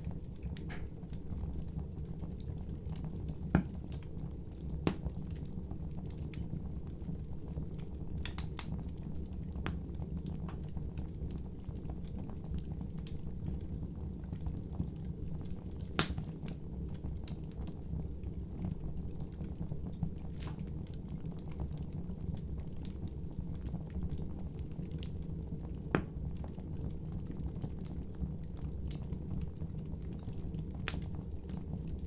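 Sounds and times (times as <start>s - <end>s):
fire crackling: 0.0s - 32.0s
fire popping: 0.0s - 32.0s
rumble of flames: 0.0s - 32.0s.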